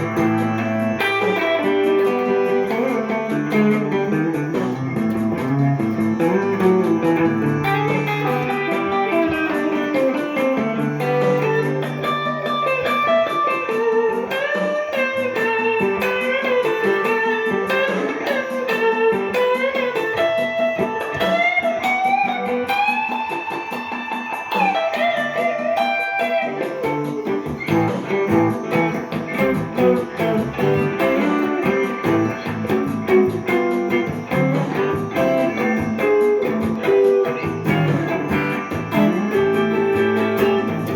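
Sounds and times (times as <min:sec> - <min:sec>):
electric guitar jazzy melody: 0:00.0 - 0:40.9.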